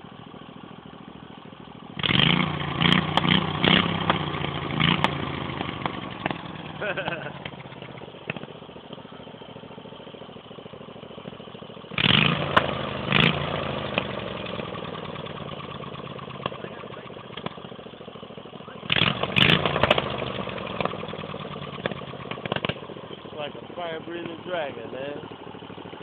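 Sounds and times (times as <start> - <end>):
small engine idling and revving: 0.0 - 26.0
exhaust backfiring cracks: 1.9 - 26.0.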